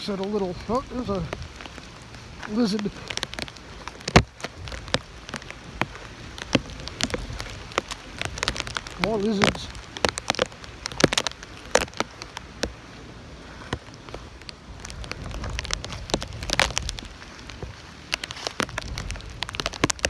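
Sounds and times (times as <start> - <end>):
raindrops tapping on microphone: 0.0 - 20.0
wind rumbling on microphone: 0.0 - 20.0.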